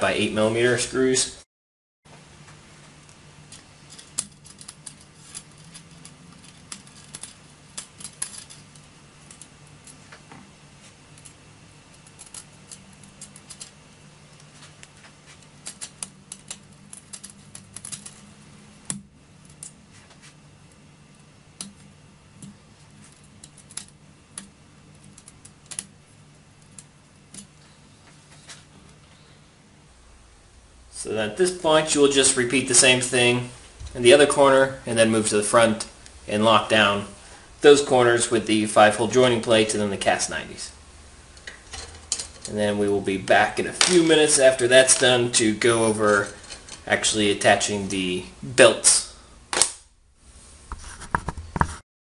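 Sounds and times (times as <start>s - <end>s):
faint low hum: 2.1s - 51.7s.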